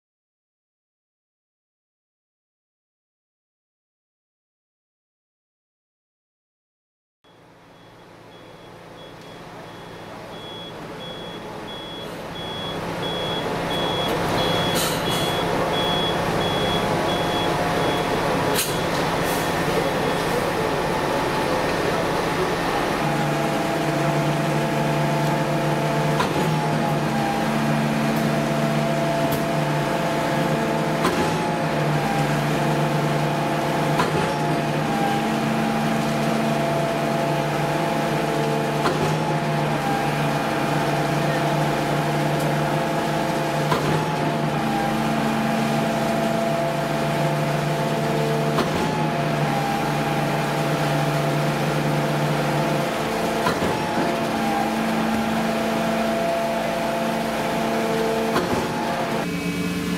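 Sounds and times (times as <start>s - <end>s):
concrete pump engine drone: 7.3s - 59.9s.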